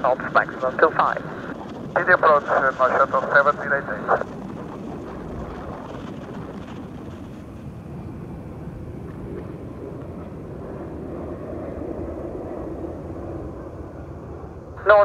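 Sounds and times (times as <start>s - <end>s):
distant airliner engine noise: 0.0s - 15.0s
faint engine hum: 0.0s - 15.0s
wind rumble on microphone: 0.0s - 15.0s.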